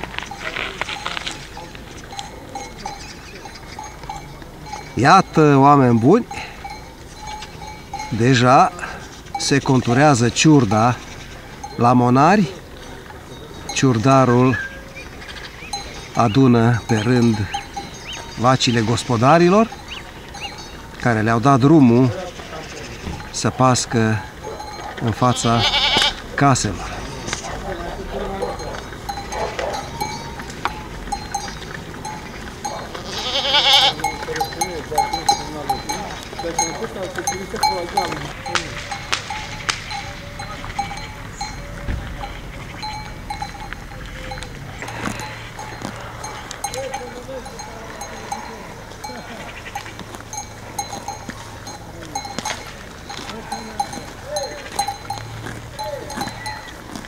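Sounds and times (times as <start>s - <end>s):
animal bells clanking: 0.0s - 57.0s.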